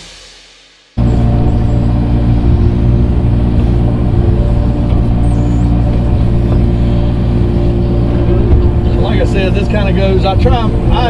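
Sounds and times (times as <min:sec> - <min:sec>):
heavy equipment engine running: 0:01.0 - 0:11.0.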